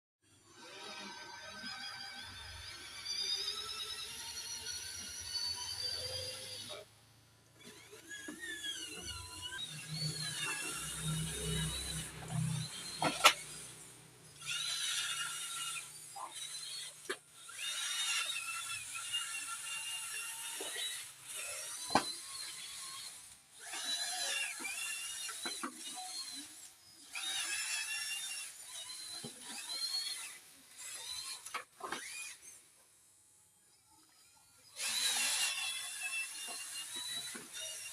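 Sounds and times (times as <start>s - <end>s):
toy electric motors whining: 0.3s - 37.9s.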